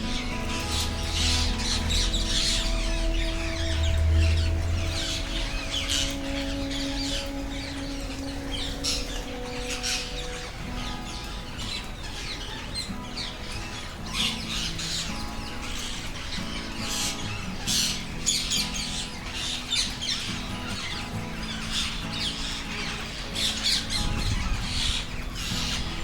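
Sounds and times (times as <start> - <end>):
background music with held notes: 0.0 - 26.0
parrots squawking and screeching: 0.0 - 26.0.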